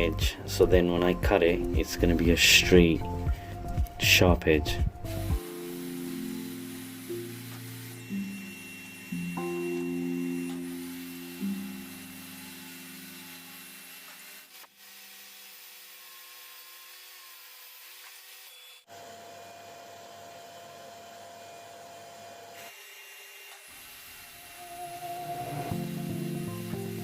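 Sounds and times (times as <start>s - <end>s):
table saw cutting wood: 5.1s - 27.0s.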